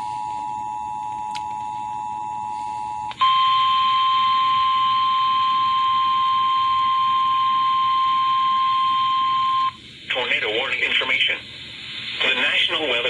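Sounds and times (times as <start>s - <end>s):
steady warning tone: 0.0s - 13.0s.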